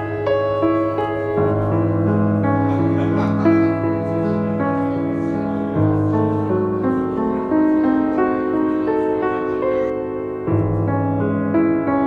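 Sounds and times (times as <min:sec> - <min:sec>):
piano chords over bass: 0:00.0 - 0:12.0.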